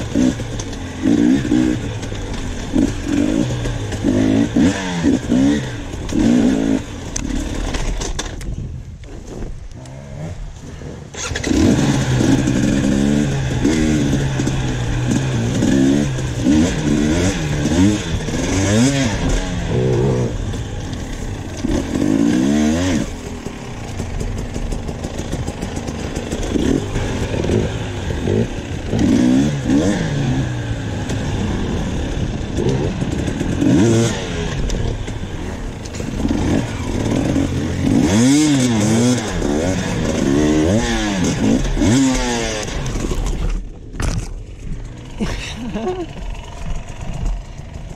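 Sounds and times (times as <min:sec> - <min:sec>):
dirt bike engine revving: 0:00.0 - 0:08.1, 0:09.8 - 0:43.5, 0:44.8 - 0:47.9.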